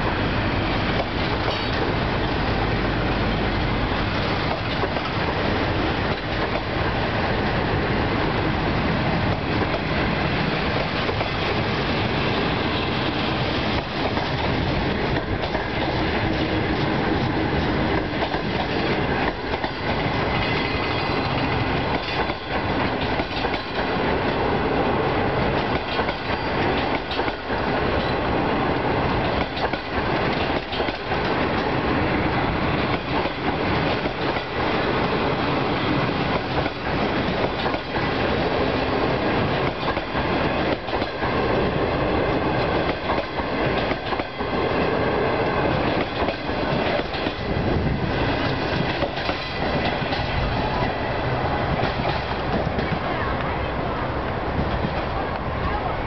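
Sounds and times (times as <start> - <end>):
train wheels clattering on rails: 0.0 - 53.5, 54.2 - 55.5.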